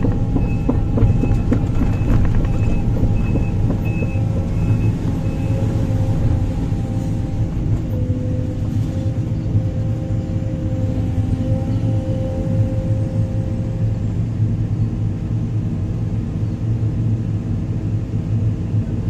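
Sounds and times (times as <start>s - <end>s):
excavator engine rumbling: 0.0s - 18.8s.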